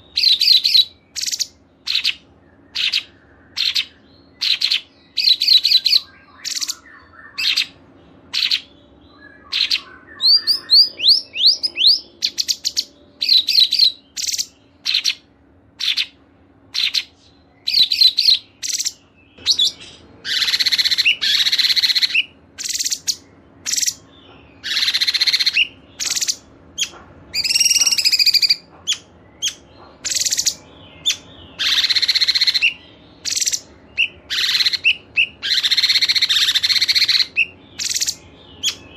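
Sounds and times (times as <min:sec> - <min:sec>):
dense bird trills: 0:00.0 - 0:38.9
high bird chirps: 0:00.0 - 0:38.9.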